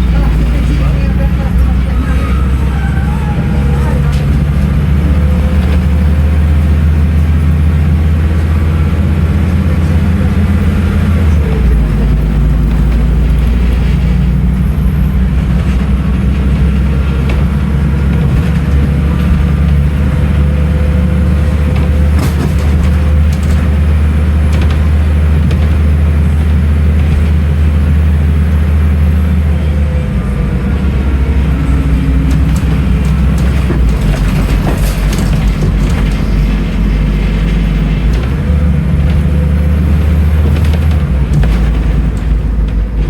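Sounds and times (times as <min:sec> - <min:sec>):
bus diesel engine droning: 0:00.0 - 0:43.0.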